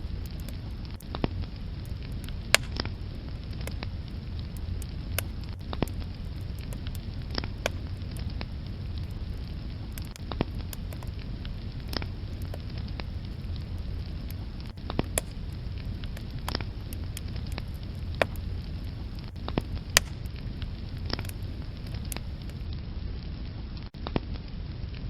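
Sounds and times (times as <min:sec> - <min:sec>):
logs crackling and popping: 0:00.0 - 0:22.7
wood fire rumbling: 0:00.0 - 0:22.7.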